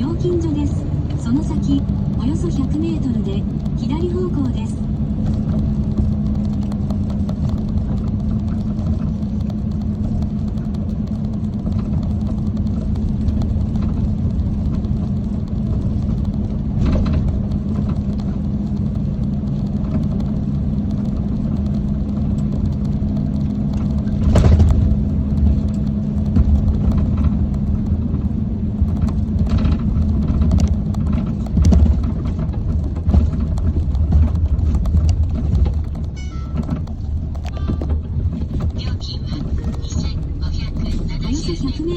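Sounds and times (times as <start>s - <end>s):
truck engine and road noise: 0.0s - 41.9s
thumps and bumps: 1.0s - 41.9s.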